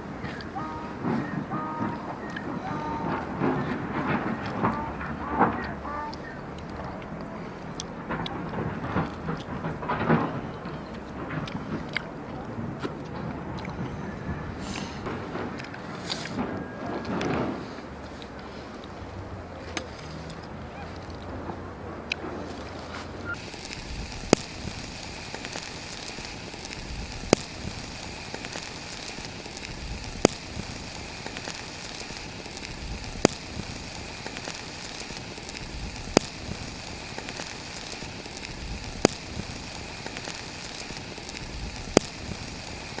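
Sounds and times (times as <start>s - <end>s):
crackling fire hiss: 0.0s - 43.0s
fire popping: 0.0s - 43.0s.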